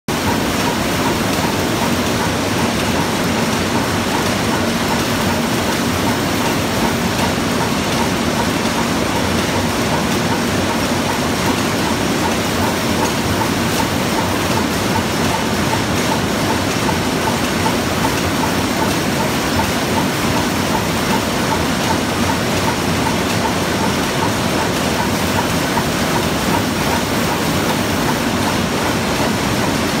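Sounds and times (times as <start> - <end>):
machines clattering: 0.1 - 30.0.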